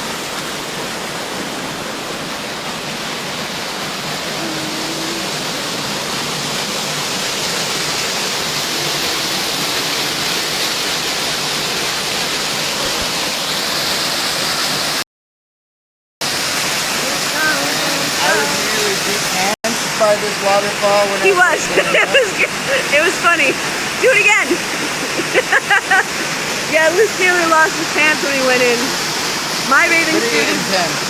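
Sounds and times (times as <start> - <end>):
waterfall roaring: 0.0 - 15.0, 16.2 - 31.0.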